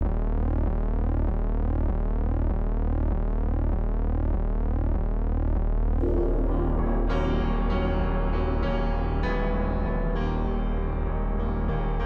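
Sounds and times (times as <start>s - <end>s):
low synth hum: 0.0s - 11.9s.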